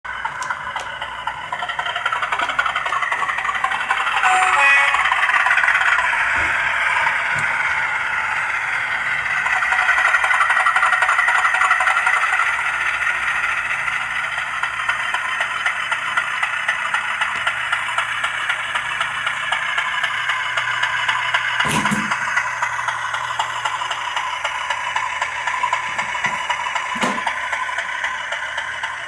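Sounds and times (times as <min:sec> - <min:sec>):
model train diesel engine sound: 0:00.0 - 0:29.0
model wheels clicking on track: 0:00.1 - 0:29.0.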